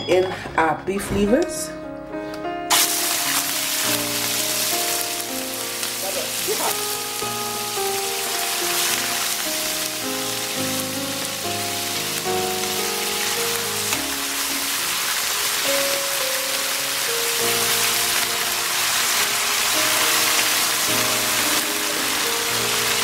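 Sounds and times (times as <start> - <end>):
background music with held notes: 0.0 - 23.0
liver sizzling in a pan: 2.7 - 23.0.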